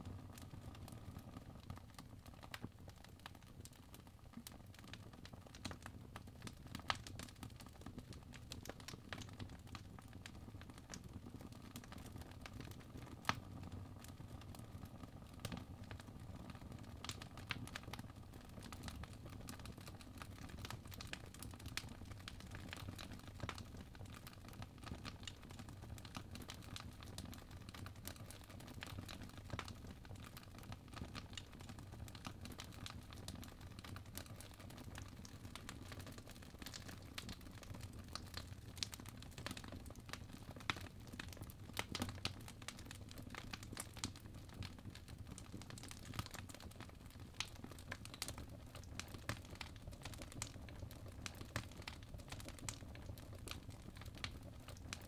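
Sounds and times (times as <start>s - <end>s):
faint crackling and ticking: 0.0s - 55.0s.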